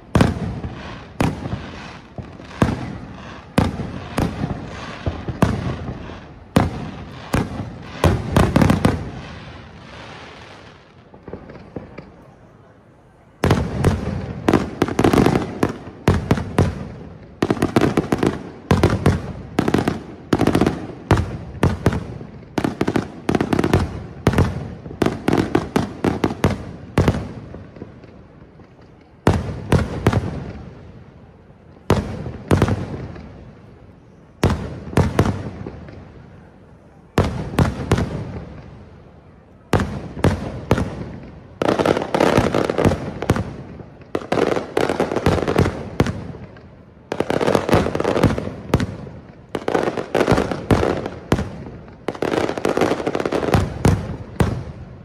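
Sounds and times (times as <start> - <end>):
fireworks bursting with sharp bangs: 0.0 - 55.0.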